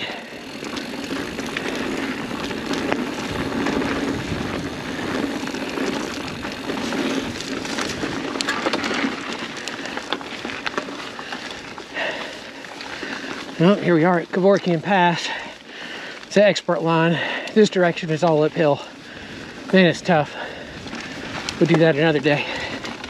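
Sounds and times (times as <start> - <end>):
bike clicks and rattles: 0.0 - 23.0
bike tyres on dirt and leaves: 0.0 - 23.0.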